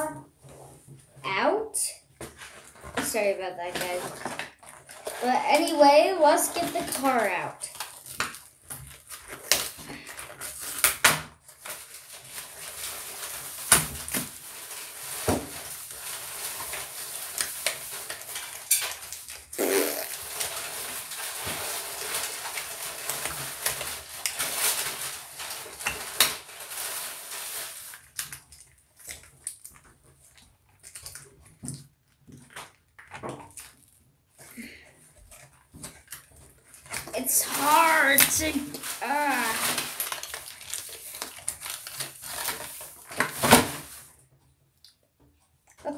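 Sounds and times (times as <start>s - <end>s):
packaging rustling and crinkling: 2.1s - 44.5s.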